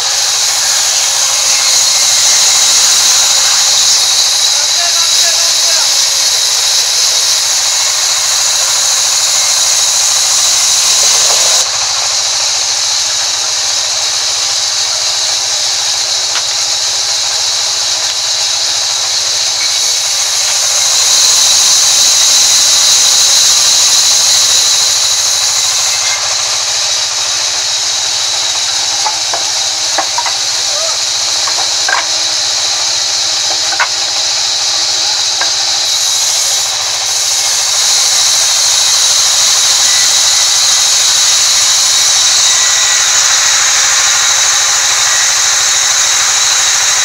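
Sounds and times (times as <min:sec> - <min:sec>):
band saw cutting timber: 0:00.0 - 0:47.0.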